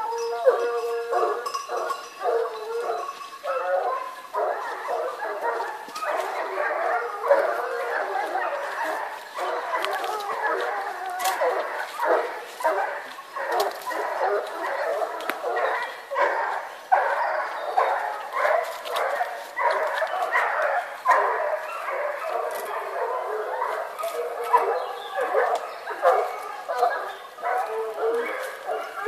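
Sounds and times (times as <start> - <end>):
dogs baying: 0.0 - 29.0
dogs yelping: 0.0 - 29.0.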